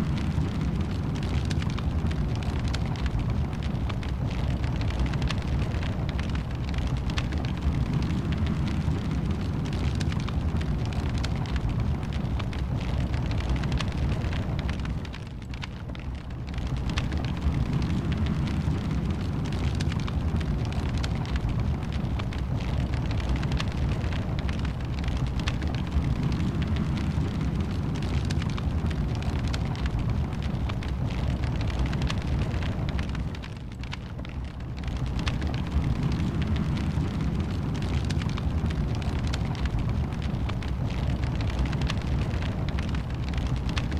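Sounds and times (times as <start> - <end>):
low rumble of flames: 0.0 - 43.9
wood fire crackling and popping: 0.0 - 43.9.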